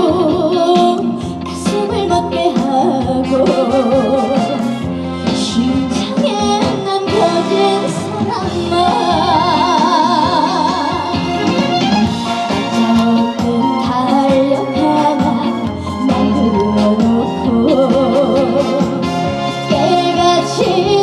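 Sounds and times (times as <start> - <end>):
live band with vibrato lead melody: 0.0 - 21.0.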